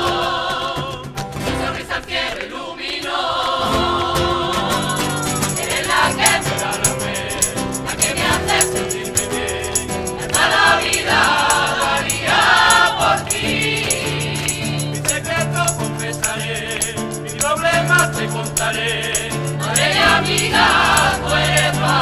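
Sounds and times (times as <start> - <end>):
choir singing: 0.0 - 22.0
steady percussion beat: 3.8 - 22.0.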